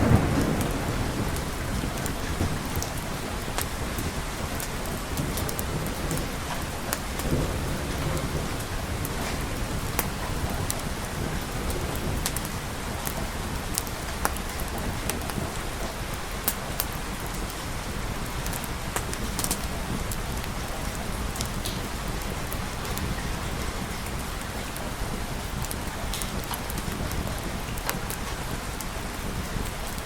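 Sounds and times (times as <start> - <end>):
raindrops clicking on surface: 0.0 - 30.0
steady rain hiss: 0.0 - 30.0.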